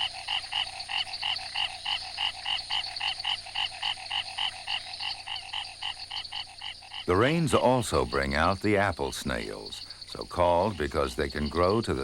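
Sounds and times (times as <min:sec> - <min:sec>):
frog croaking: 0:00.0 - 0:12.0.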